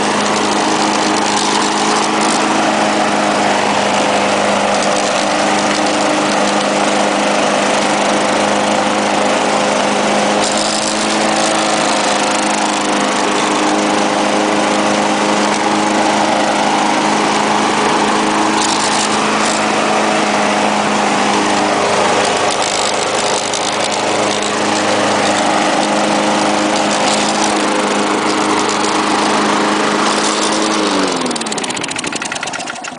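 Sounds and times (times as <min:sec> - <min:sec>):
lawn mower engine running: 0:00.0 - 0:32.9.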